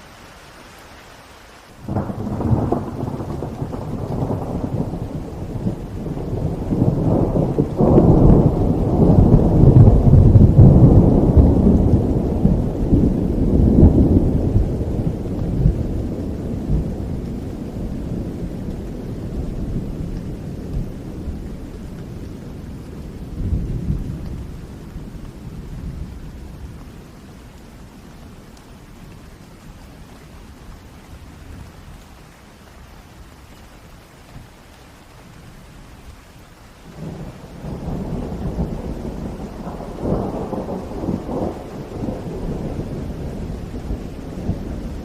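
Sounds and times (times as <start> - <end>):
steady rain: 0.0 - 45.0
thunder rumbling: 1.8 - 32.2, 36.8 - 45.0.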